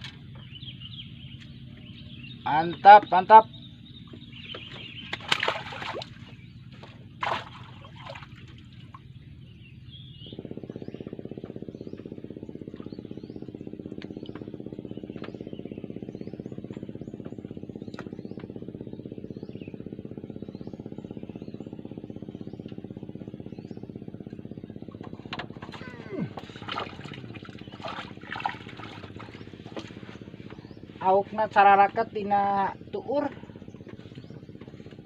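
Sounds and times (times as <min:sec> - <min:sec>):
steady motor hum: 0:00.0 - 0:35.0.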